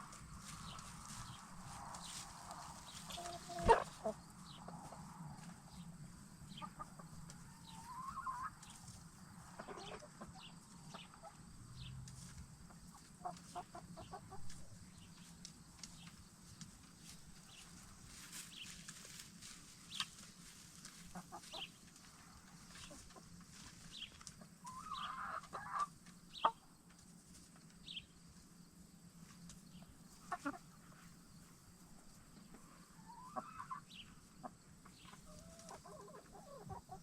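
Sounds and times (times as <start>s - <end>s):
hens clucking softly: 0.0s - 15.4s, 19.9s - 27.7s, 29.2s - 37.0s.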